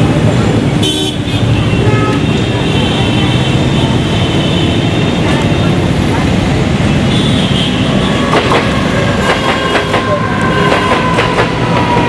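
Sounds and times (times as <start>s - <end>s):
train rumbling past: 1.4s - 12.0s.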